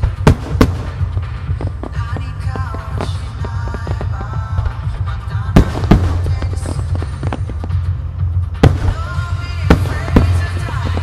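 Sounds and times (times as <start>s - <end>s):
firework shells bursting: 0.0s - 11.0s
music with heavy bass: 0.0s - 11.0s.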